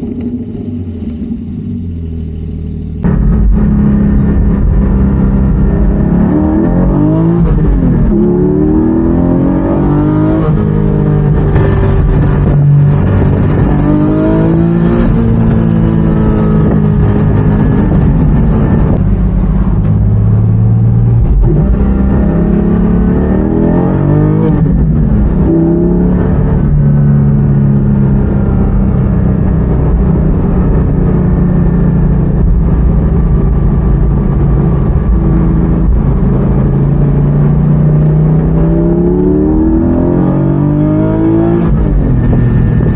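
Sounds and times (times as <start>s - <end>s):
car exhaust under hard acceleration: 0.0s - 42.9s.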